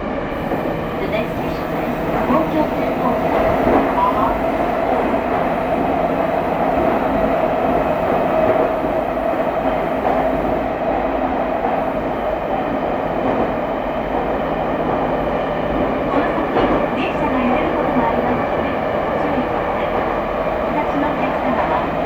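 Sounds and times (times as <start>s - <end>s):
train car humming: 0.0s - 22.0s
train wheels rumbling on rails: 0.0s - 22.0s.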